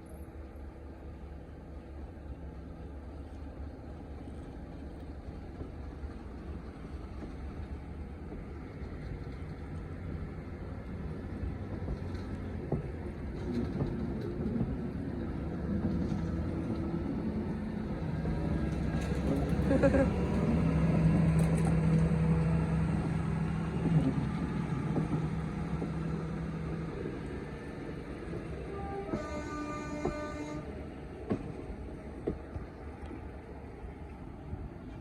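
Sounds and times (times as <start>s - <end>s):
diesel locomotive engine: 0.0s - 35.0s.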